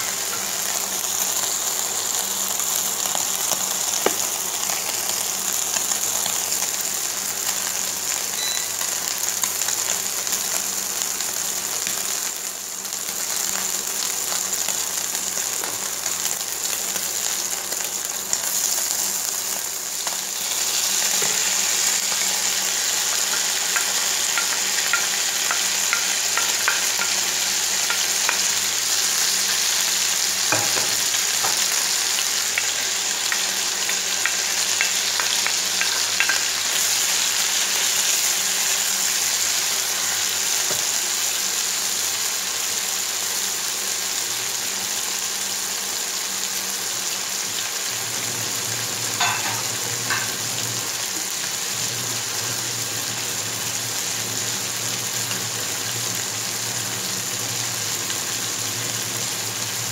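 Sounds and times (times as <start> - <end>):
chicken sizzling in a frying pan: 0.0 - 59.9.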